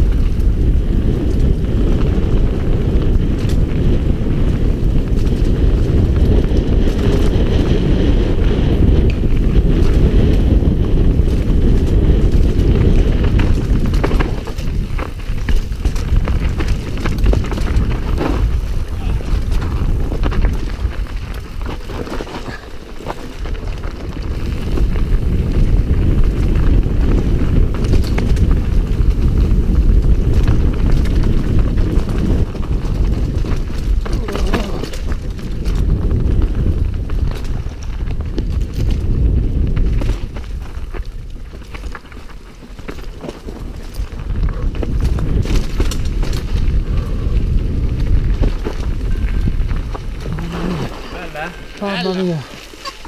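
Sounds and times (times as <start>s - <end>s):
bike knocks and rattles: 0.0s - 51.2s
bike tyres rumbling on dirt: 0.0s - 53.0s
wind buffeting microphone: 0.0s - 53.0s.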